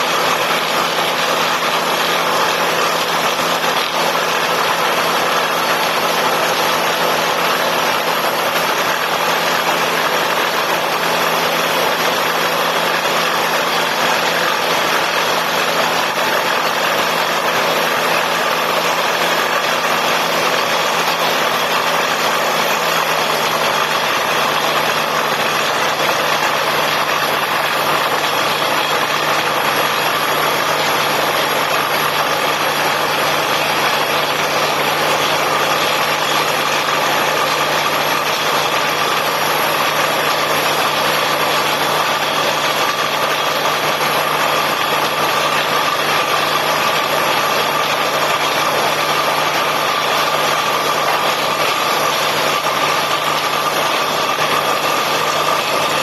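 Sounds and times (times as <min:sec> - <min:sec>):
drilling rig machinery running: 0:00.0 - 0:56.0.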